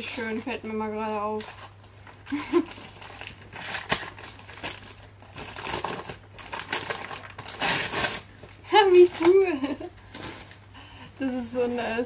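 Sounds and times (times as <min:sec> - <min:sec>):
wrapping paper crinkling: 0:00.0 - 0:10.6.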